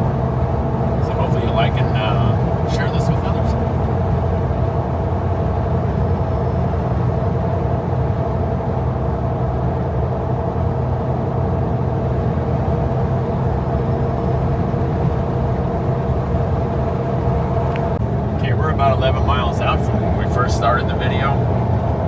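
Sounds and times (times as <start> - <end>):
car interior engine and road drone: 0.0 - 22.0.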